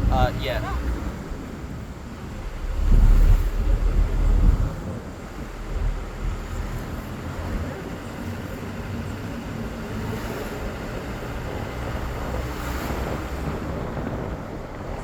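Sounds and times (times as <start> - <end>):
vehicle engine and road noise: 0.0 - 15.0
wind buffeting microphone: 0.0 - 15.0.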